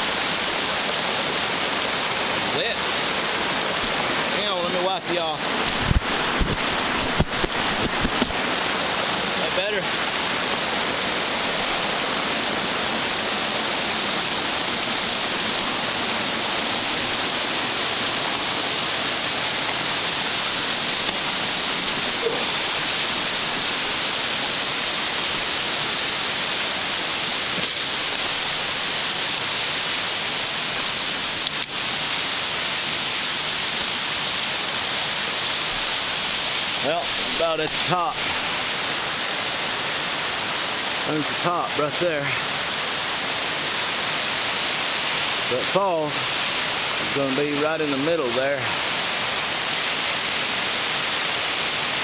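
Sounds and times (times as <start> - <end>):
mountain stream rushing: 0.0 - 52.0.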